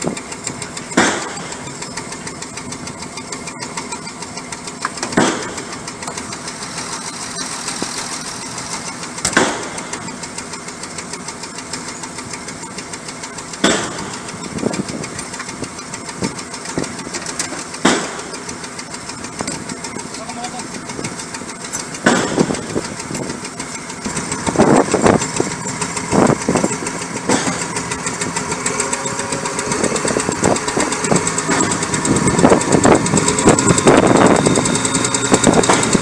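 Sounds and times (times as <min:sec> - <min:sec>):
diesel engine idling: 0:00.0 - 0:36.0
engine bursts: 0:00.0 - 0:36.0.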